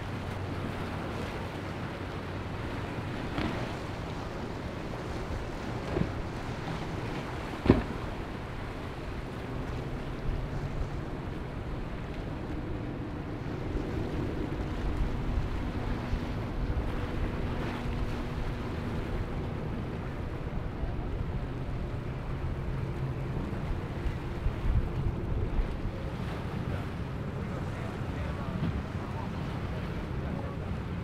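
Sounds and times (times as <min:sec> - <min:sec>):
outboard motors running: 0:00.0 - 0:31.0
rushing waves and spray: 0:00.0 - 0:31.0
wind buffeting microphone: 0:00.0 - 0:31.0.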